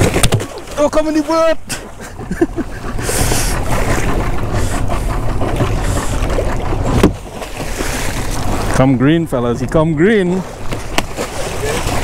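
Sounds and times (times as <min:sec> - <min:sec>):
boat motor running: 0:00.0 - 0:12.0
water splashing along hull: 0:00.0 - 0:12.0.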